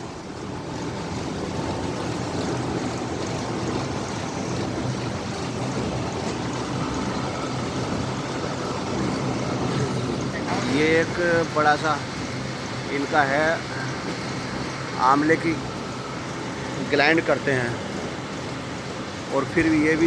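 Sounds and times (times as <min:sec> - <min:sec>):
mill machinery rushing: 0:00.0 - 0:20.0.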